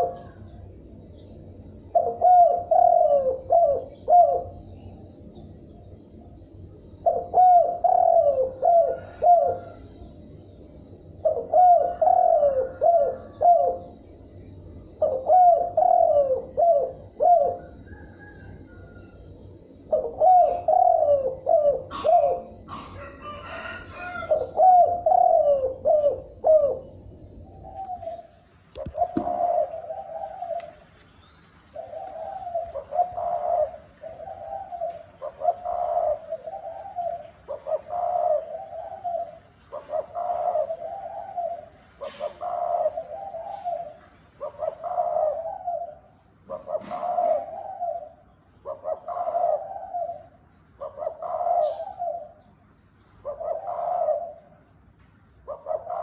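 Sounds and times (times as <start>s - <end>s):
dove cooing: 0.0s - 5.9s, 6.9s - 56.0s.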